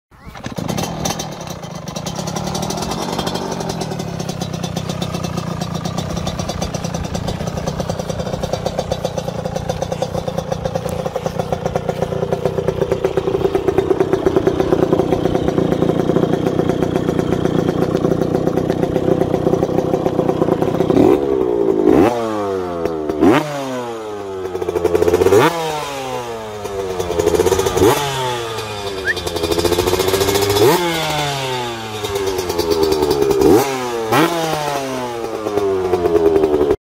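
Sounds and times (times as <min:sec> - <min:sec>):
engine running and revving: 0:00.2 - 0:36.8.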